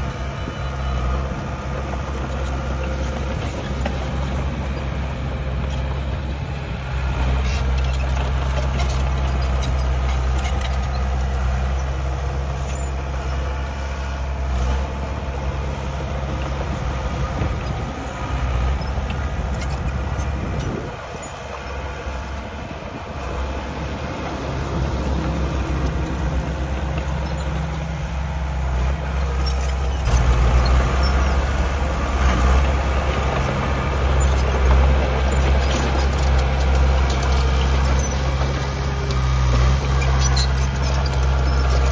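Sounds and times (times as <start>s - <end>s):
heavy machinery diesel engine running: 0.0s - 41.9s.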